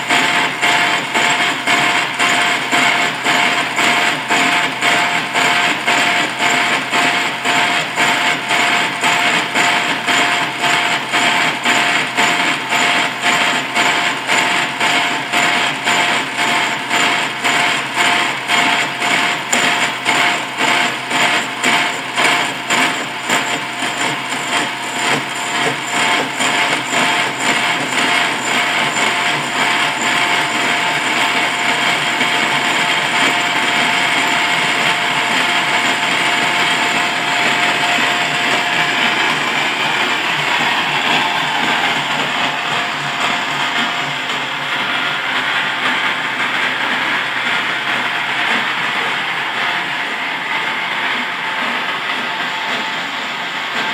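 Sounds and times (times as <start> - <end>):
drill machine whining: 0.0 - 53.9.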